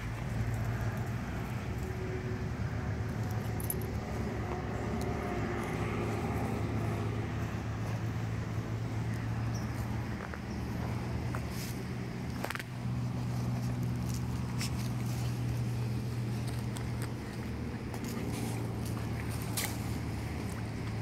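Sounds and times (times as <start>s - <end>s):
puppy paws digging in sand: 3.1s - 21.0s.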